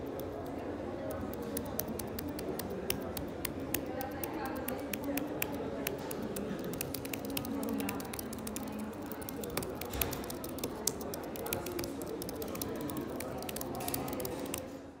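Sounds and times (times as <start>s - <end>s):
fast typing on keyboard: 0.0s - 15.0s.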